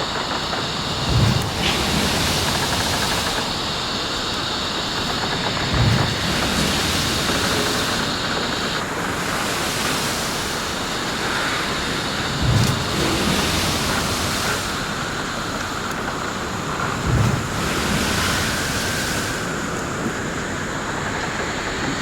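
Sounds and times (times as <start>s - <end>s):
wind: 0.0s - 22.0s
wind buffeting microphone: 0.0s - 22.0s.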